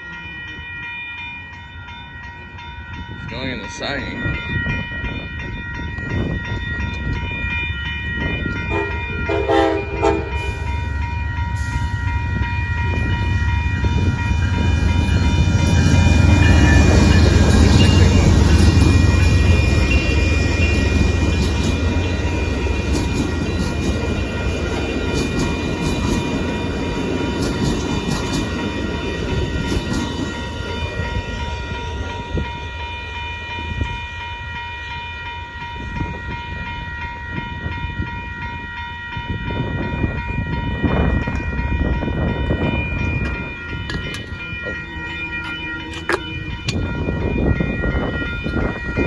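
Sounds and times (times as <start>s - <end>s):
high ringing tones: 0.0s - 49.0s
train low rumble: 0.0s - 49.0s.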